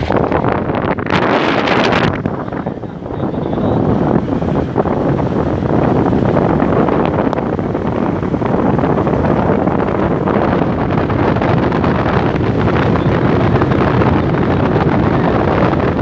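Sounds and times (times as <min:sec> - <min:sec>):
vehicle road and engine noise: 0:00.0 - 0:16.0
wind buffeting microphone: 0:00.0 - 0:16.0.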